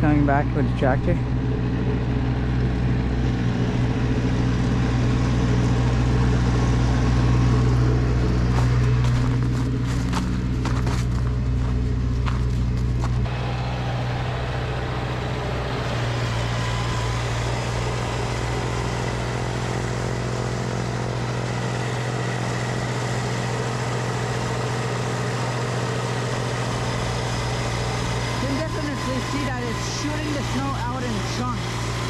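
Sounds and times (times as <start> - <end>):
tractor engine humming: 0.0 - 32.0.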